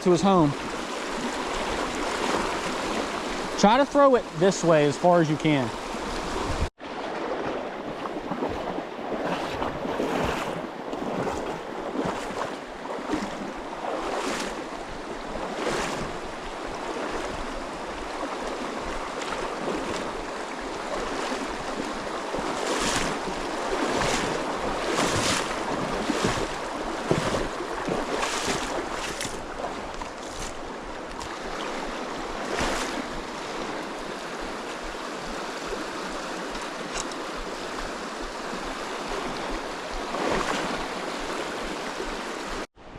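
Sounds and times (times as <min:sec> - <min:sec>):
mountain stream rushing: 0:00.0 - 0:42.9
wind gusts on microphone: 0:05.4 - 0:42.7.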